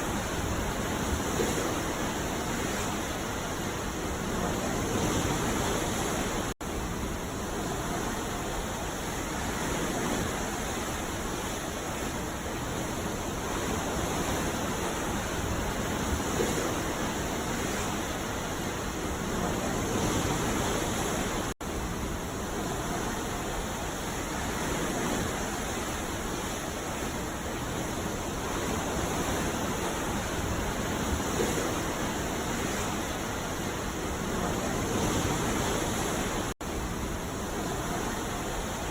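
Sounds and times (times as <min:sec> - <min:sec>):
waves breaking: 0:00.0 - 0:38.9.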